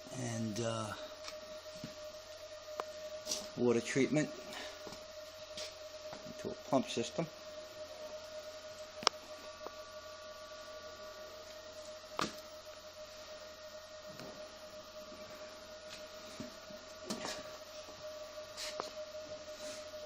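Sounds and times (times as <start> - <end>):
water treatment equipment hum: 0.0 - 20.0.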